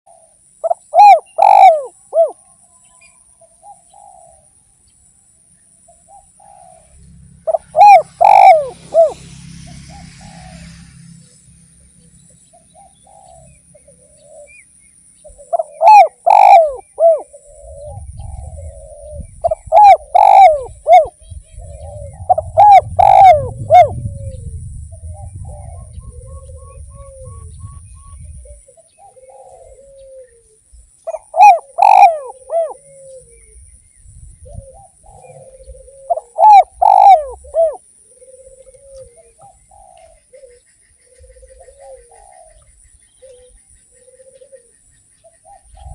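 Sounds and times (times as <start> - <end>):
dove cooing: 0.1 - 2.4, 3.4 - 4.5, 5.9 - 10.9, 12.5 - 14.6, 15.2 - 33.6, 34.4 - 45.9
faint cooing of other doves: 0.1 - 4.8, 5.8 - 11.2, 12.0 - 45.9.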